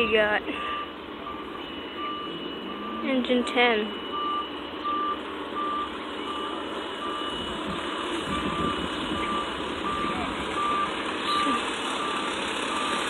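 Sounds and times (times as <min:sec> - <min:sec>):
backup alarm beeping: 0:00.0 - 0:13.0
diesel engine running: 0:00.0 - 0:13.0.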